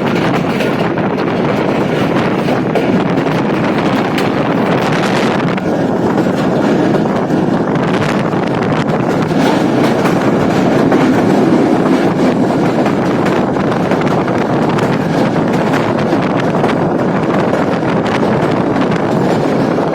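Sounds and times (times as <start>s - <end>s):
faint rail clicks: 0.0s - 19.9s
train rumbling on board: 0.0s - 19.9s
wind buffeting microphone: 0.0s - 19.9s.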